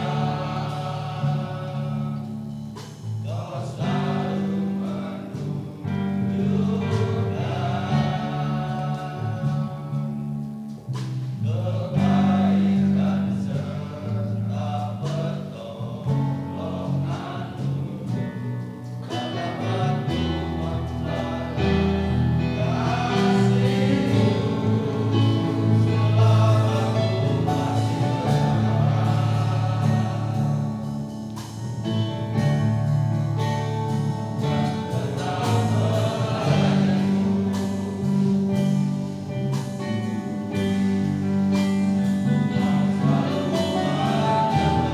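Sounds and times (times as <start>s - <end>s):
men's choir singing a hymn: 0.0s - 10.4s, 11.0s - 44.9s.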